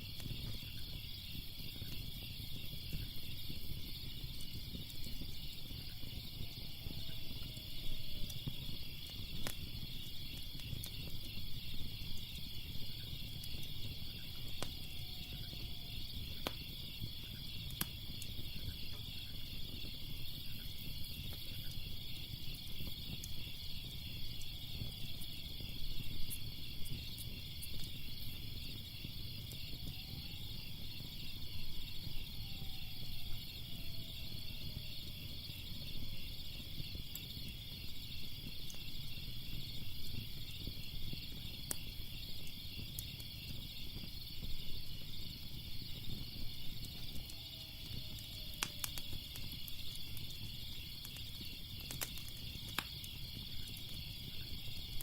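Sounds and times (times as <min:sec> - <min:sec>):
crickets chirping: 0:00.0 - 0:55.0
fire crackling: 0:00.0 - 0:55.0.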